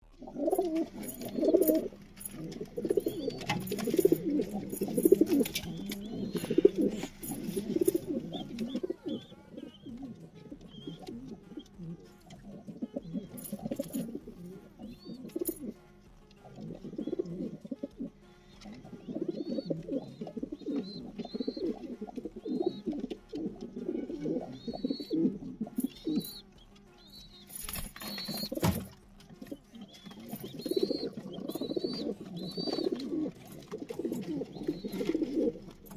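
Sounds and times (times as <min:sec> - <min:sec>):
high chirping notes: 0:00.0 - 0:35.9
pigeons cooing: 0:00.0 - 0:35.9.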